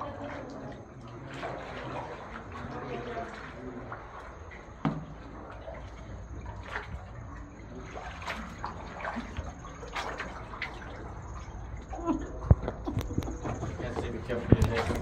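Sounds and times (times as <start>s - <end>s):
sharp water splashes: 0.0s - 15.0s
water sloshing around canoes: 0.0s - 15.0s.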